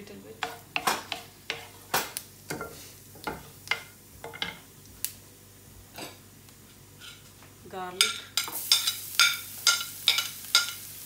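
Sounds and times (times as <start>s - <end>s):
seeds sizzling in hot fat: 0.0s - 11.0s.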